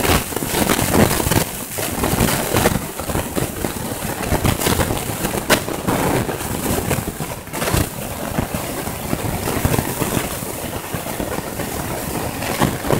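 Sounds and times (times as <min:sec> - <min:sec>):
knocks and crackles: 0:00.0 - 0:12.9
wind on microphone: 0:00.0 - 0:12.9.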